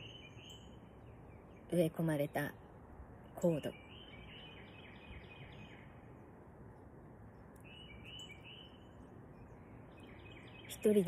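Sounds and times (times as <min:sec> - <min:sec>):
small bird singing: 0:00.0 - 0:06.4, 0:07.4 - 0:11.0
steady low background noise: 0:00.0 - 0:11.0.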